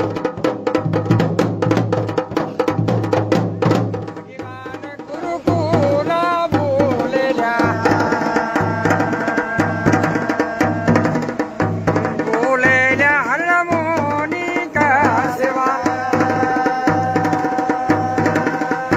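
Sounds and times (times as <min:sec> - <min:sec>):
folk drums playing rhythm: 0:00.0 - 0:18.9.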